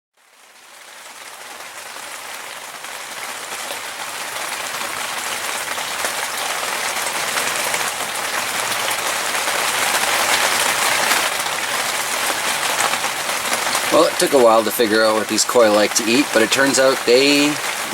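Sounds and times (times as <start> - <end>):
waterfall splashing into tank: 0.2 - 17.9.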